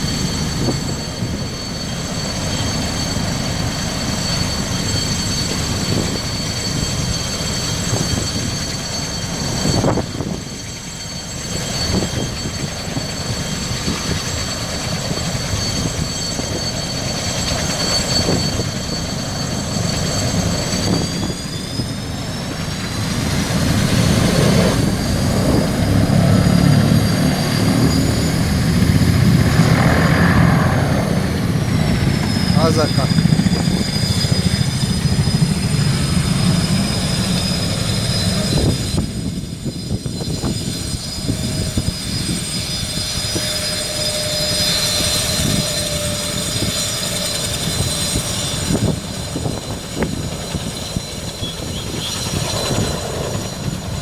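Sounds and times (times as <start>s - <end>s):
helicopter rotor beating: 0.0s - 54.0s
helicopter turbine whine: 0.0s - 54.0s.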